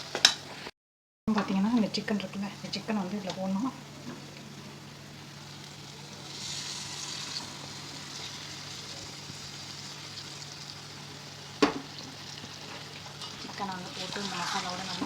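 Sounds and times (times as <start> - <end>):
masala sizzling in a pan: 1.6 - 15.0.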